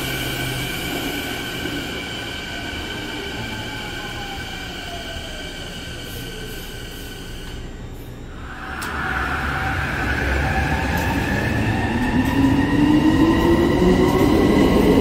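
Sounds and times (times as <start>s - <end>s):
train whining in tunnel: 0.0s - 15.0s.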